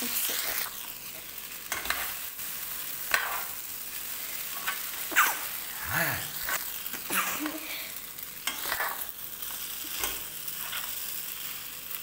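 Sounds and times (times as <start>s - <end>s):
noodles sizzling in a pan: 0.0s - 12.0s.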